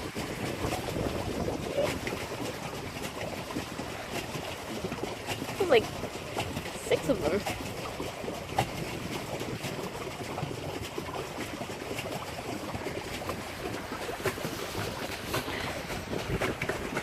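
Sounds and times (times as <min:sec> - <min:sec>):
paddle wheel splashing water: 0:00.0 - 0:17.0.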